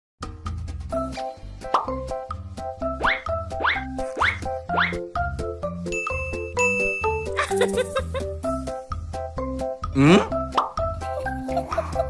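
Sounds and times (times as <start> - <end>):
bouncy cartoon music: 0.2 - 12.0.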